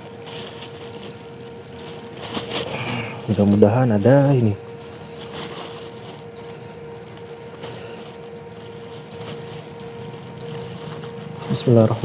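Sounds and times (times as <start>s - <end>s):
faint ticks and rustles: 0.0s - 12.0s
insects chorus: 0.0s - 12.0s
steady mid-pitched hum: 0.0s - 12.0s.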